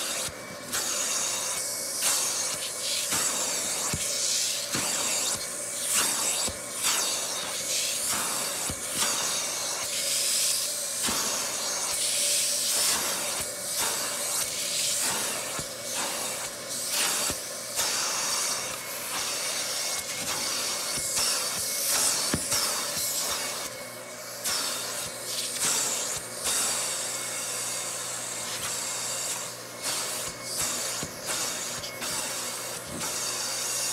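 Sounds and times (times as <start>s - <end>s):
vacuum motor whine: 0.0s - 33.9s.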